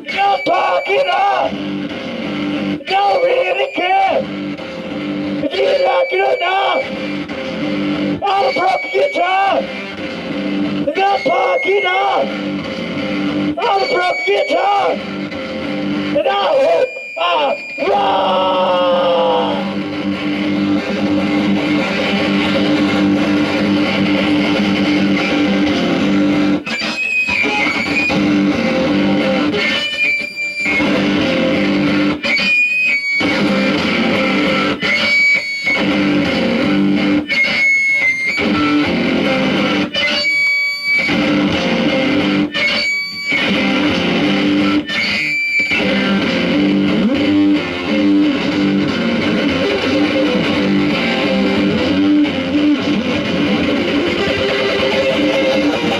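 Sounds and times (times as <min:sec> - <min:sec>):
distorted electric guitar droning: 0:00.0 - 0:55.9.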